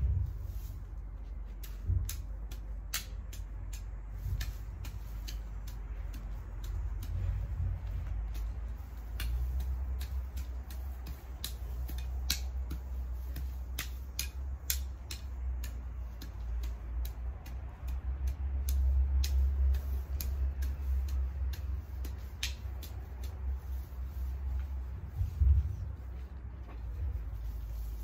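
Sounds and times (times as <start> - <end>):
grass being snipped by hand: 0.0 - 28.0
low steady rumble: 0.0 - 28.0.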